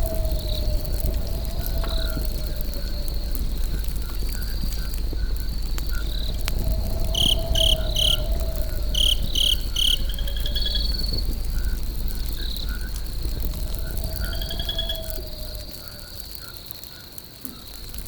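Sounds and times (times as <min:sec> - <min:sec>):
campfire crackling: 0:00.0 - 0:18.0
insects trilling: 0:00.0 - 0:18.0.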